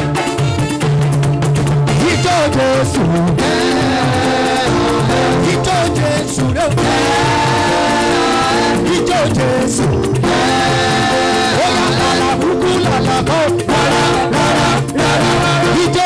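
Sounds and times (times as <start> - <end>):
gospel band with guitar and drums: 0.0 - 16.0.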